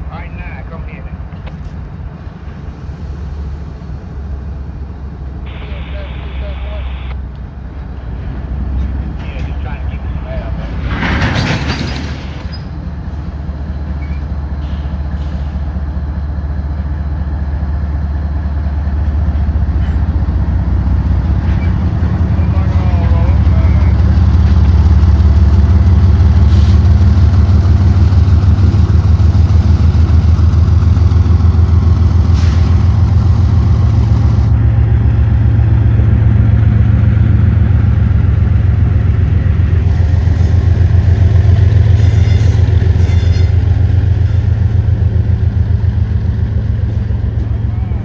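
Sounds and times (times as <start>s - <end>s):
diesel locomotive engine throbbing: 0.0s - 48.0s.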